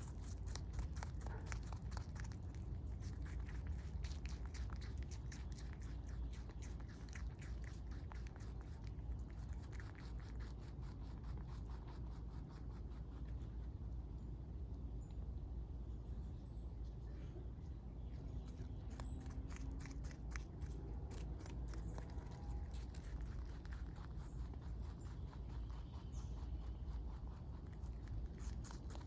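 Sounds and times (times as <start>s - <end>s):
rabbit chewing: 0.0s - 15.3s, 17.9s - 29.0s
low steady rumble: 0.0s - 29.0s.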